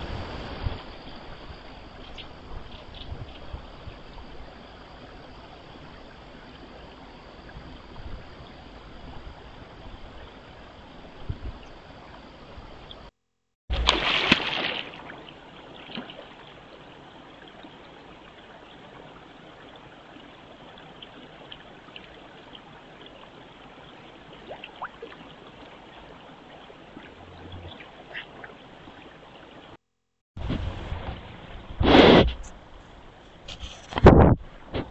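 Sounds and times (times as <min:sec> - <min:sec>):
pond ambience hiss: 0:00.0 - 0:13.1, 0:13.7 - 0:29.8, 0:30.4 - 0:34.9.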